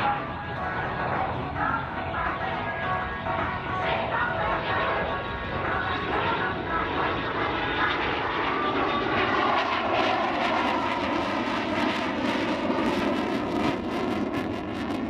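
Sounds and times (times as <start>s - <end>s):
crackling jet roar: 0.0s - 15.0s.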